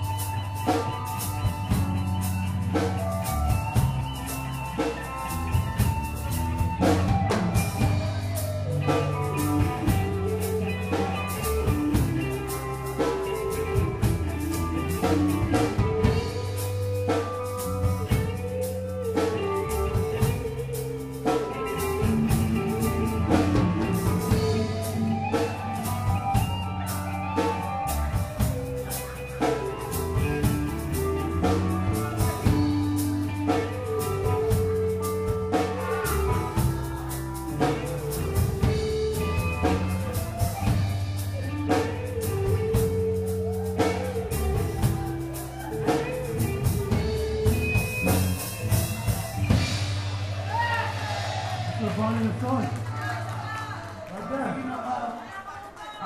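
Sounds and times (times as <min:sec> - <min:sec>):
drum kit beat: 0:00.0 - 0:53.7
bass guitar: 0:00.0 - 0:54.6
electric guitar: 0:00.0 - 0:55.3.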